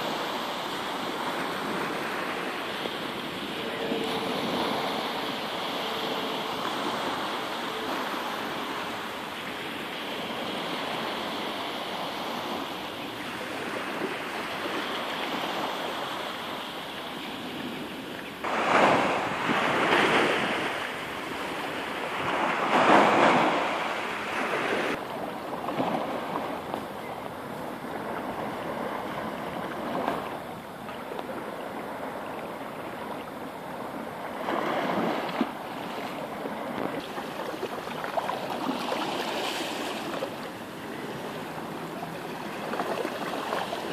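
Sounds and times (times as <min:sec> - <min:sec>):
waves breaking on sandy beach: 0:00.0 - 0:43.9.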